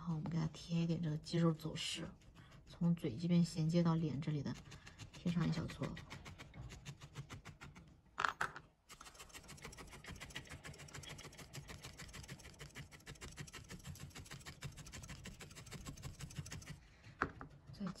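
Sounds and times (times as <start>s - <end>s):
felting needle punching wool: 1.2s - 8.0s, 8.9s - 18.0s.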